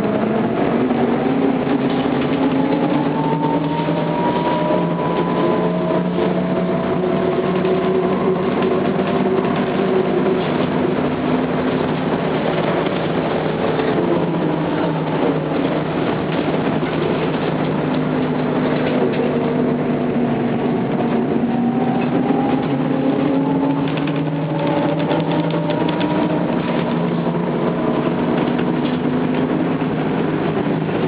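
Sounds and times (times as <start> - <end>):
road rumble: 0.0 - 31.0.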